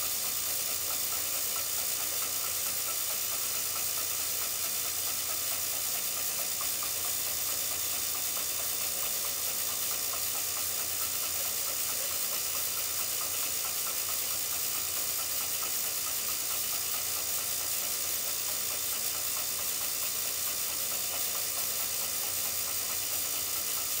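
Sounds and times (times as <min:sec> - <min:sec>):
drill press drilling: 0:00.0 - 0:24.0.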